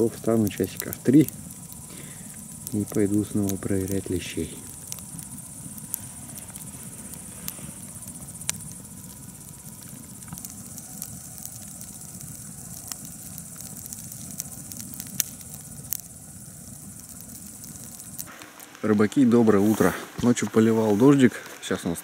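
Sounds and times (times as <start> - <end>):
crickets chirping: 0.0 - 19.6
campfire crackling and popping: 0.0 - 22.0.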